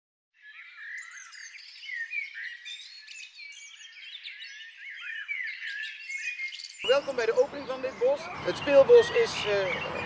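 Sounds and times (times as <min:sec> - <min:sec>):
songbirds singing: 0:00.4 - 0:10.0.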